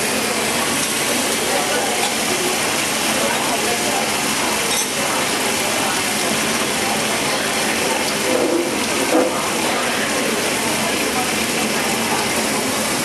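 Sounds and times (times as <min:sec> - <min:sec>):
food sizzling on a hot plate: 0:00.0 - 0:13.0.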